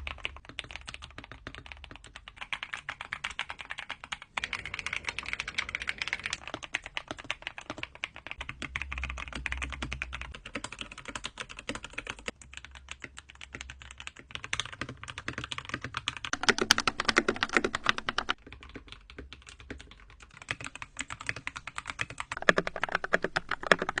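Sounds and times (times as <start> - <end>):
mechanical keyboard typing: 0.0 - 24.0.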